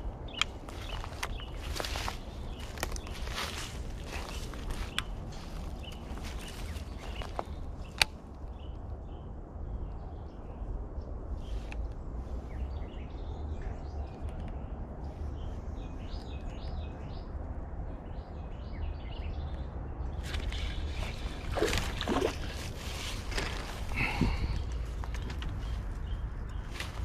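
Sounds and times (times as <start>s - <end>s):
small birds chirping: 0.0s - 10.6s, 11.4s - 17.4s, 18.0s - 27.0s
steady low rumble: 0.0s - 27.0s.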